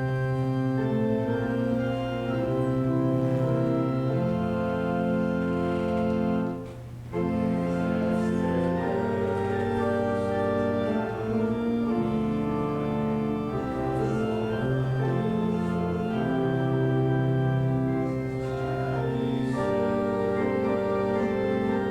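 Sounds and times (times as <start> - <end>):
church organ playing hymn: 0.0 - 21.9.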